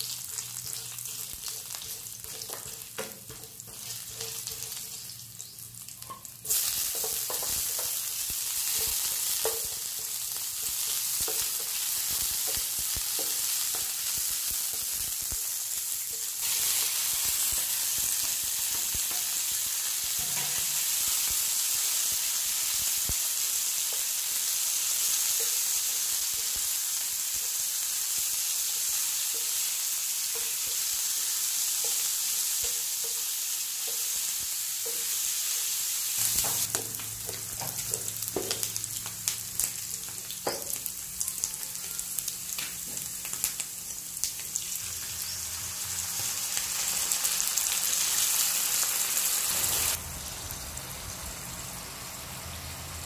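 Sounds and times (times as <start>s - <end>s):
pork sizzling in oil: 0.0s - 53.0s.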